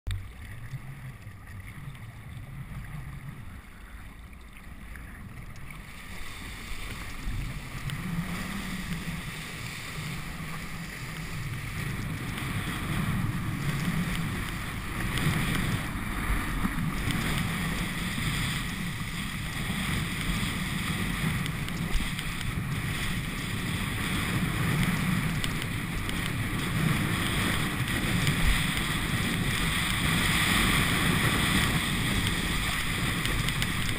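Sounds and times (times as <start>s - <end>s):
wind and water rushing: 0.1s - 33.9s.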